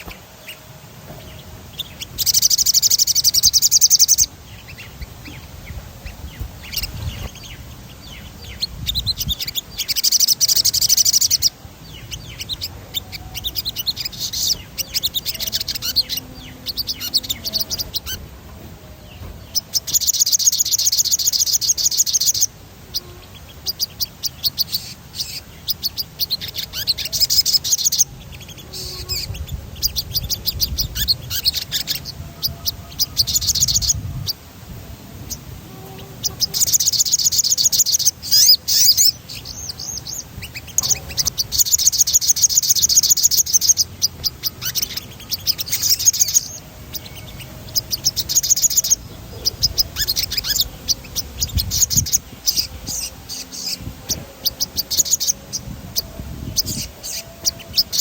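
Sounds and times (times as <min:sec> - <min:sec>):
songbird high-pitched rolling trills: 0:00.0 - 0:58.0.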